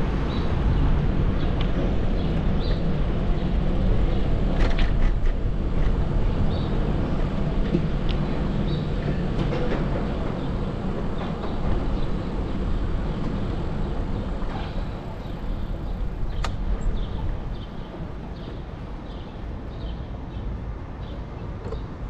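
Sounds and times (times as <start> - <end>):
wind on microphone: 0.0 - 19.0
bicycle riding rumble: 0.0 - 22.0.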